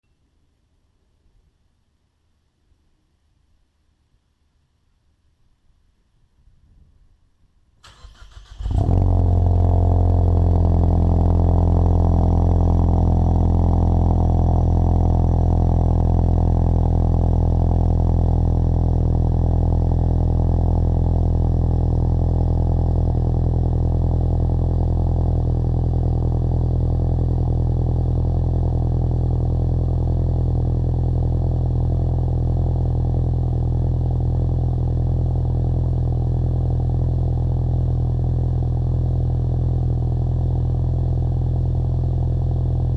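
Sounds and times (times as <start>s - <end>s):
car engine idling: 7.9s - 42.9s.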